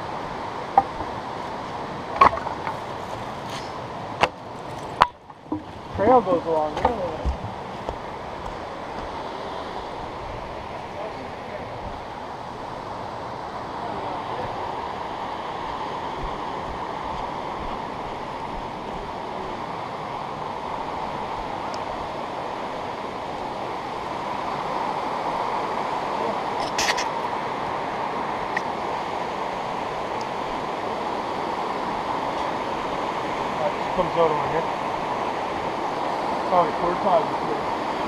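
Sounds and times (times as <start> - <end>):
river rapids rushing: 0.0 - 38.0.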